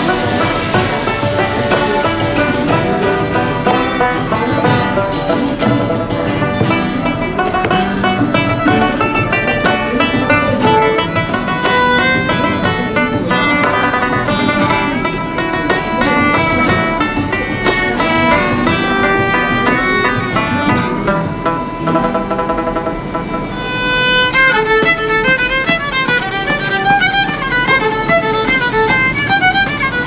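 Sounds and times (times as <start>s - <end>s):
frame drum beat: 0.0s - 23.4s, 24.0s - 30.0s
plucked banjo melody: 0.0s - 30.0s.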